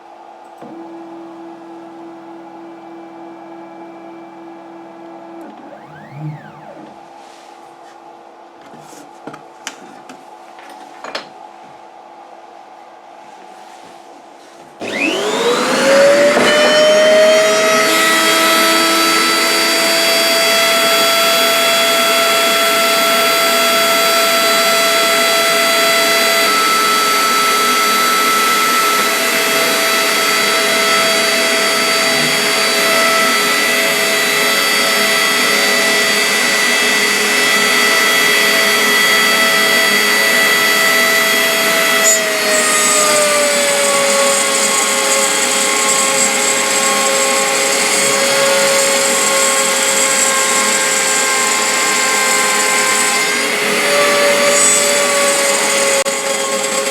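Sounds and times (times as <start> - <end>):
router spindle whining: 0.5 - 7.2, 14.8 - 56.9.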